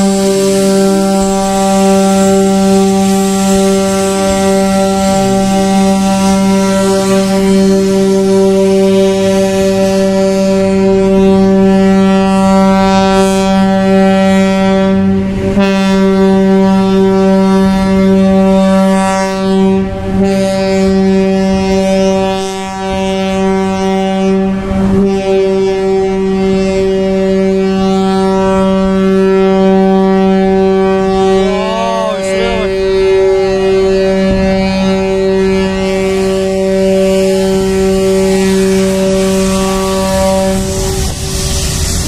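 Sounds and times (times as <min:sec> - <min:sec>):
ship's horn blast: 0:00.0 - 0:42.0.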